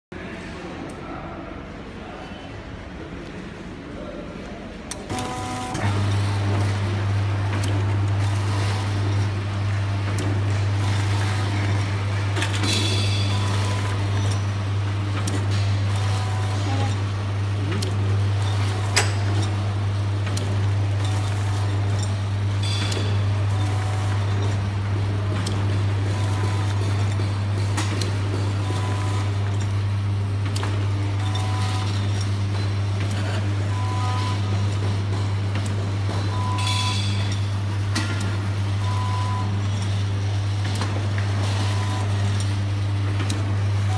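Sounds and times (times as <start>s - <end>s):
packing machine humming: 4.0s - 43.9s
machine mechanism clicking and knocking: 4.9s - 17.1s, 17.7s - 38.5s, 39.6s - 43.6s.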